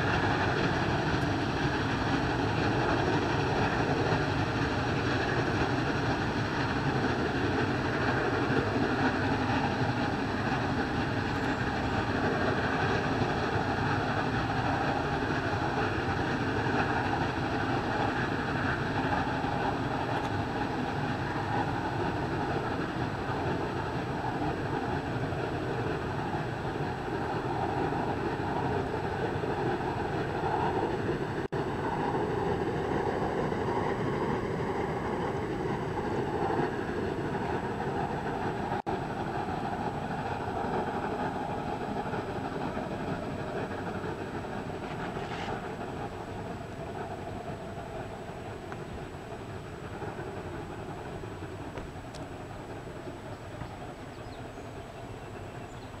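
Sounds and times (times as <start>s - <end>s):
steam locomotive exhaust: 0.0s - 56.0s.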